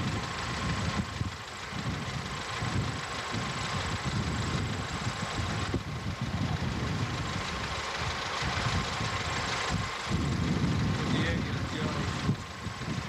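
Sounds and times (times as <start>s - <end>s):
jeep engine idling: 0.0s - 13.0s.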